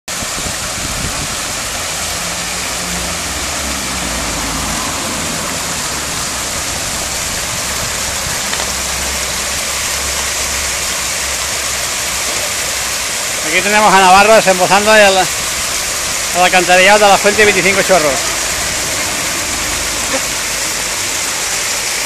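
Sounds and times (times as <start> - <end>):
fountain water pouring into basin: 0.1 - 22.0.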